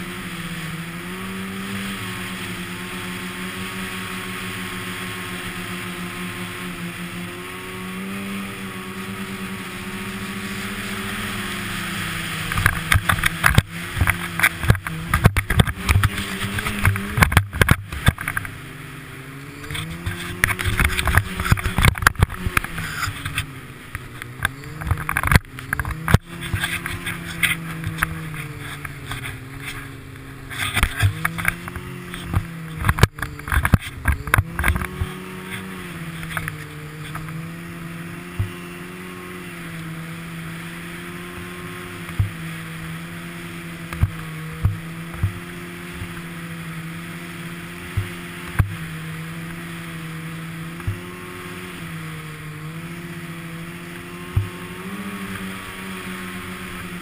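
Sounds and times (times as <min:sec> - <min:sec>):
snowmobile engine running: 0:00.0 - 0:57.0
loud irregular knocking and buffeting: 0:09.0 - 0:18.8, 0:19.6 - 0:57.0.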